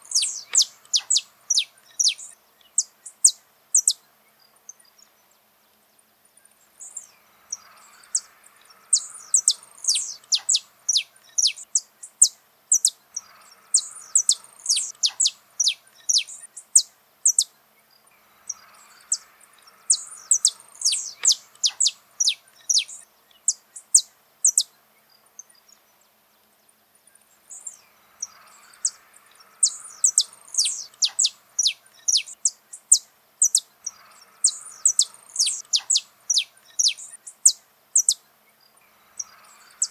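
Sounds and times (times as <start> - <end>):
finch singing high chirps: 0.0 - 4.0, 6.8 - 17.6, 18.4 - 24.8, 27.5 - 39.9.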